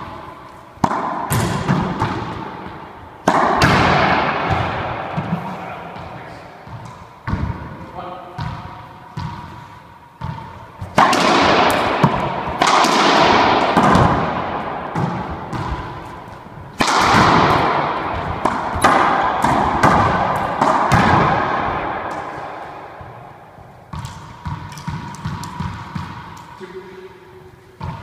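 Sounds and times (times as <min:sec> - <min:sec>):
racquetball hits echoing: 0:00.0 - 0:26.7, 0:27.7 - 0:28.0.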